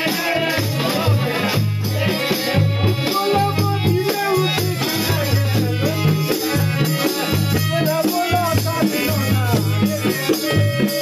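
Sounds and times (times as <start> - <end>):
hand drum beat: 0.0 - 11.0.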